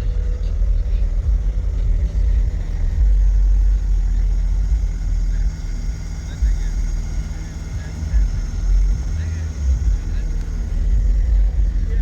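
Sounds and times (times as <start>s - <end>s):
engine idling rumble: 0.0s - 12.0s
faint steady hum: 0.0s - 12.0s.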